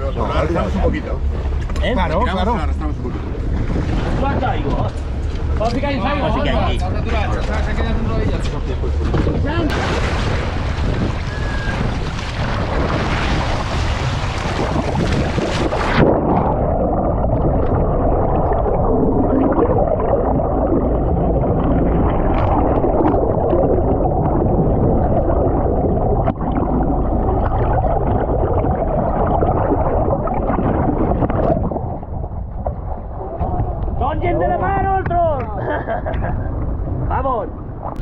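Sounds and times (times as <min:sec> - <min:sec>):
sea noise: 0:00.0 - 0:38.0
underwater gurgling rumble: 0:00.0 - 0:38.0
wind on microphone: 0:03.0 - 0:38.0.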